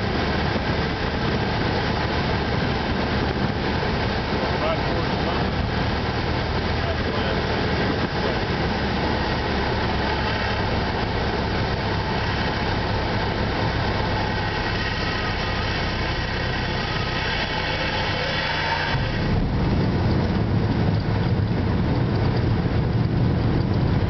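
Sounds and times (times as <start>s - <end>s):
plane engine and propeller: 0.0s - 24.0s.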